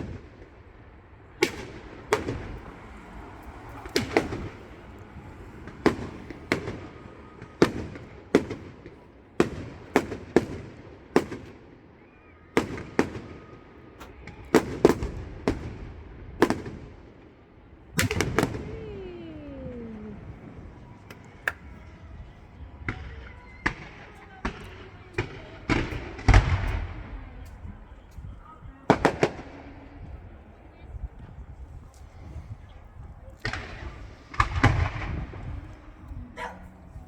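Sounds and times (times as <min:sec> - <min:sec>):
fireworks bangs: 0:00.0 - 0:11.8, 0:12.6 - 0:17.3, 0:17.9 - 0:27.9, 0:28.9 - 0:30.3, 0:33.4 - 0:36.6.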